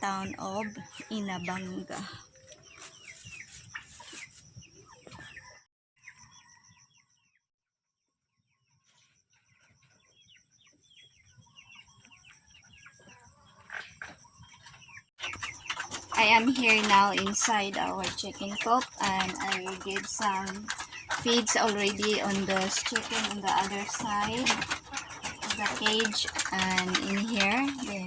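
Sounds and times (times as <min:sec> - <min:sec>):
chickens clucking: 0:00.0 - 0:06.8, 0:10.9 - 0:28.0
chickens peeping: 0:00.0 - 0:07.3, 0:09.5 - 0:28.0.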